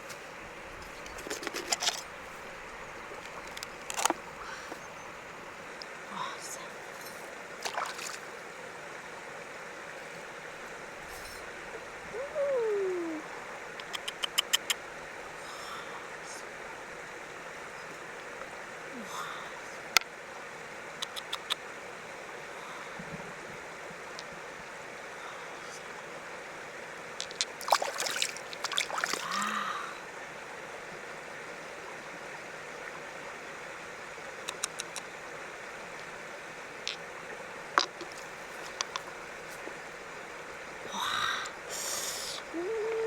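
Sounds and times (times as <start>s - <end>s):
running water: 0.0s - 43.0s.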